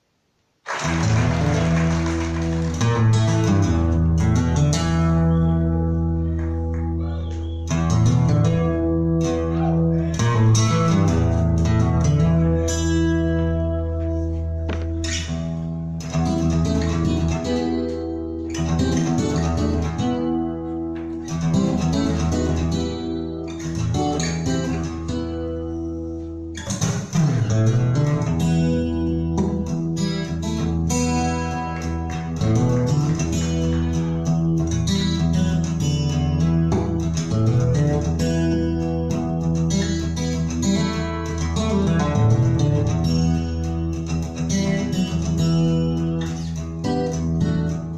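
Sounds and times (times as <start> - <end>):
guitar song with bass: 0.7 - 47.9.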